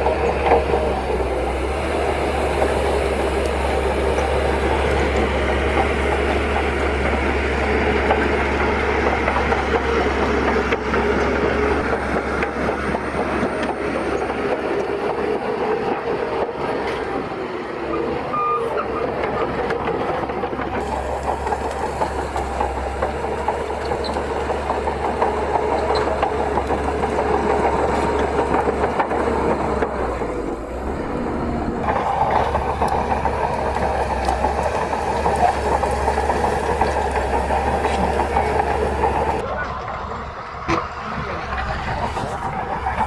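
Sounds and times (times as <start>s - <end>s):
bulldozer diesel engine: 0.0s - 43.0s
tracks clanking: 0.0s - 43.0s.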